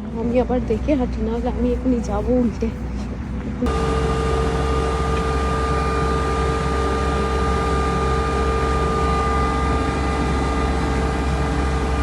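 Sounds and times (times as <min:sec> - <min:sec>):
constant whine: 0:00.0 - 0:12.0
vehicle engine droning: 0:00.0 - 0:12.0.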